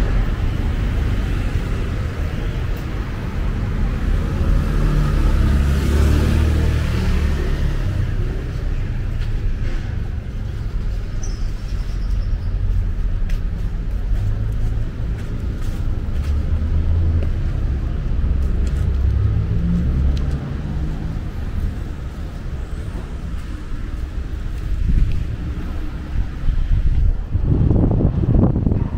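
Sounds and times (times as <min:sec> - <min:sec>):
cars passing: 0:00.0 - 0:28.9
heavy low traffic rumble: 0:00.0 - 0:28.9.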